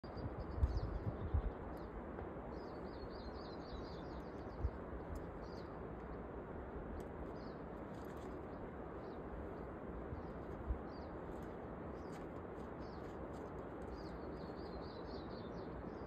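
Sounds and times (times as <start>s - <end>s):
small birds chirping: 0.0s - 6.3s, 6.9s - 16.0s
outdoor background hiss: 0.0s - 16.0s.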